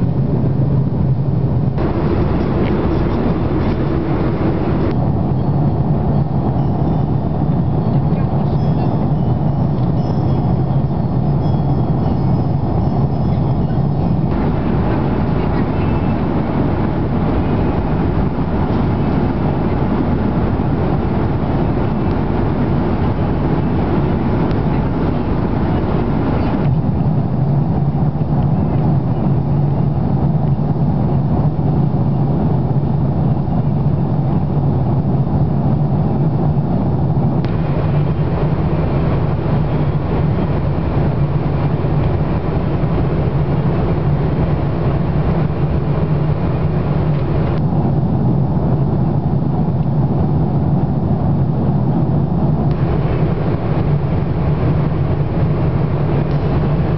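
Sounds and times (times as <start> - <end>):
airliner cabin airflow rush: 0.0 - 56.9
dull rumble with low hum: 0.0 - 56.9.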